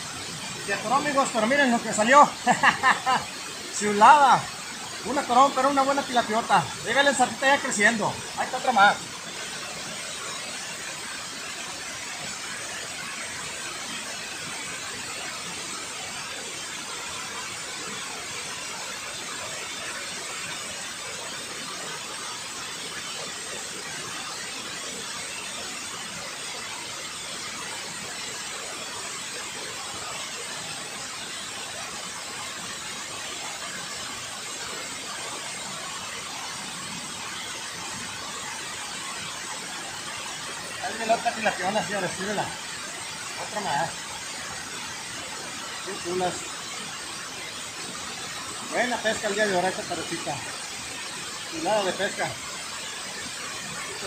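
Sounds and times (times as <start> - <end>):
water rushing down a spillway: 0.0 - 54.0.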